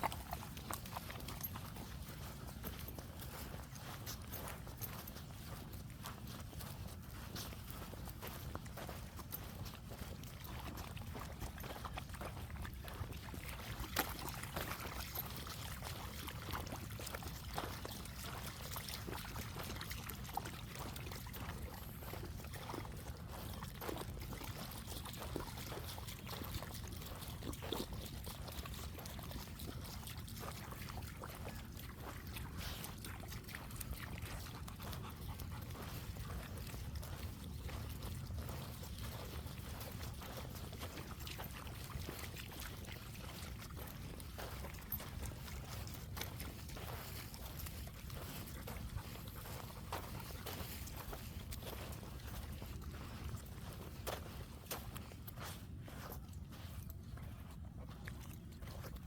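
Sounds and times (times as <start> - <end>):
trickle of water: 0.0 - 59.0.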